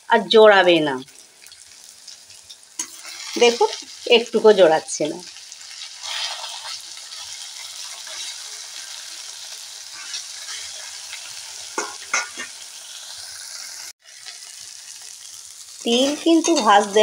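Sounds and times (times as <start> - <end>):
paste sizzling in hot oil: 1.0 - 17.0.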